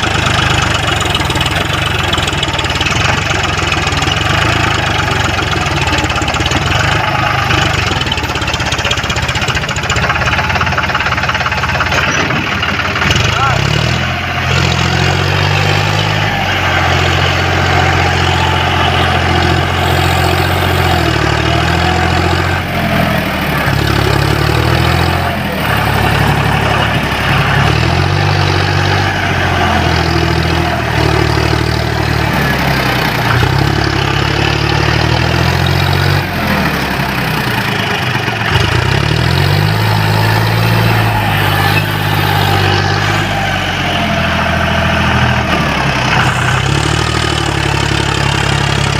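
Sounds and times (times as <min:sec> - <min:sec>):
tractor diesel engine running hard: 0:00.0 - 0:48.9.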